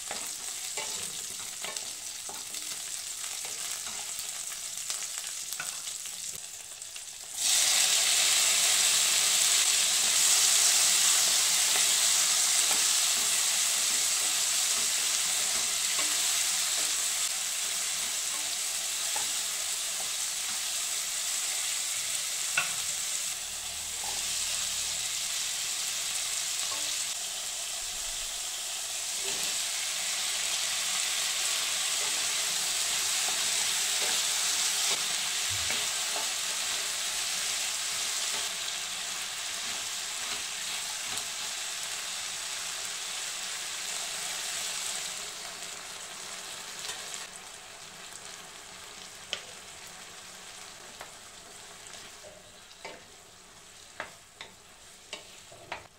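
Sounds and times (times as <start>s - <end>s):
vegetables sizzling in oil: 0.0s - 55.9s.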